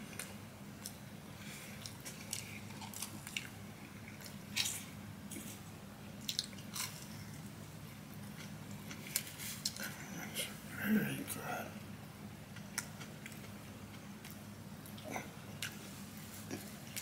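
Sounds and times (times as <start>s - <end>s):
close chewing of food: 0.0s - 5.6s, 6.2s - 10.0s, 12.5s - 17.0s.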